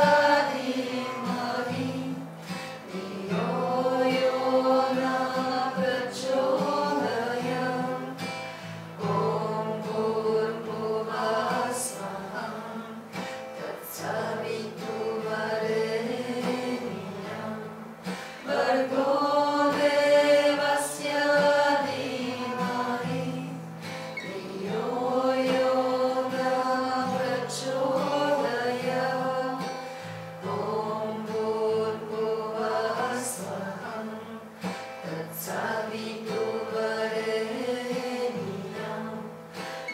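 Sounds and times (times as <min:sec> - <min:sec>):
strummed acoustic guitar: 0:00.0 - 0:39.9
voices chanting together: 0:00.0 - 0:39.9.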